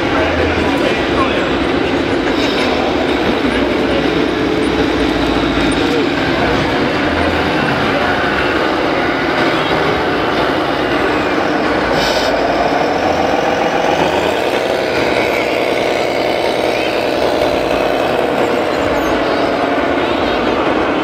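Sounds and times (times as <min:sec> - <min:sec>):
simulated diesel truck engine: 0:00.0 - 0:21.0.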